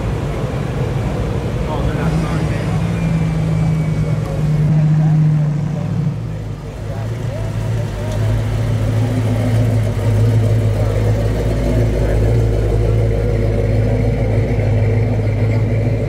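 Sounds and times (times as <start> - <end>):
car engine passing slowly: 0.0 - 16.0.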